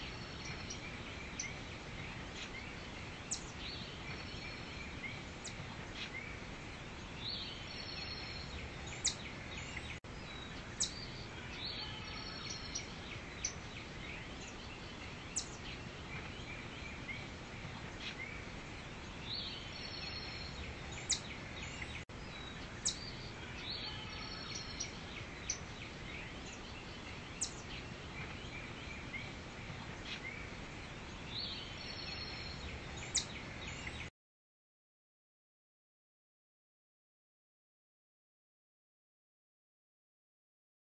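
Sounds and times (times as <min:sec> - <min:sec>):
forest background hiss: 0:00.0 - 0:34.1.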